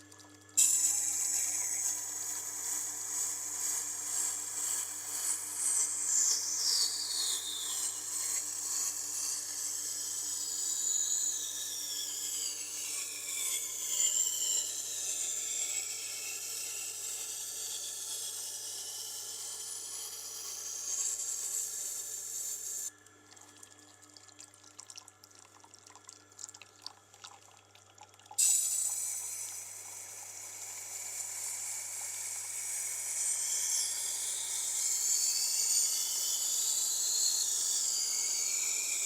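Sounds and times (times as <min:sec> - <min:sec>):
grinder machine low hum: 0:00.0 - 0:27.7, 0:28.4 - 0:39.0
knife scraping on grinding wheel: 0:00.6 - 0:22.9, 0:28.4 - 0:39.0.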